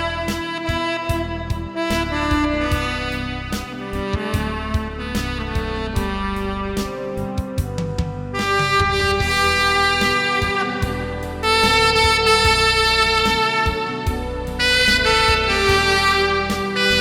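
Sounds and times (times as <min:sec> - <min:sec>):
accompaniment with steady beat: 0:00.0 - 0:17.0
tenor saxophone melody: 0:00.0 - 0:17.0.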